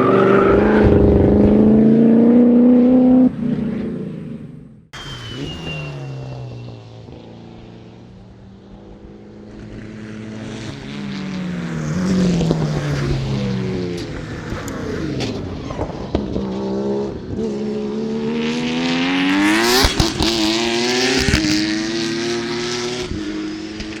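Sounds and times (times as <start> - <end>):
race car engine at full throttle: 0.0 - 24.0.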